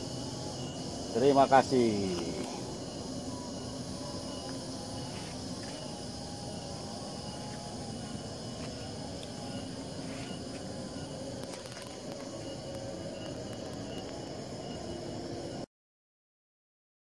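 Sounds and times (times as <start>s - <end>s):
insects chirring: 0.0s - 15.7s.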